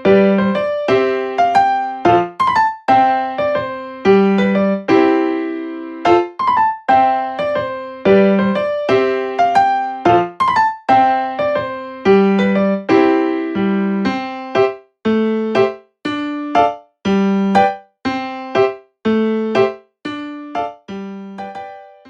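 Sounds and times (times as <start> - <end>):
bouncy keyboard tune: 0.0 - 22.0.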